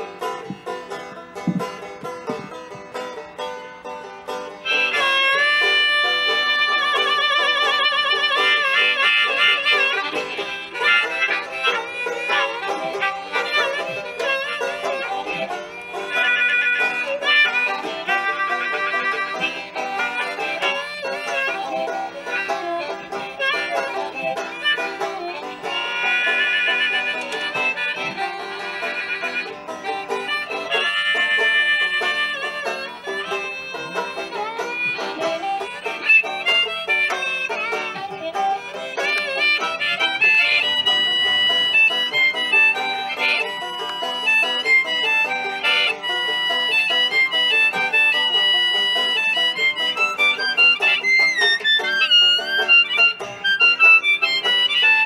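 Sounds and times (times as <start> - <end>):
banjo picking: 0.0 - 55.0
harmonica playing: 0.0 - 55.0.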